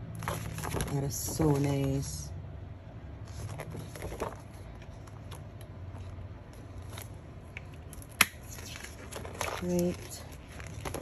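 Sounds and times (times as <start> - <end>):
paper pages rustling: 0.2 - 2.1, 3.2 - 11.0.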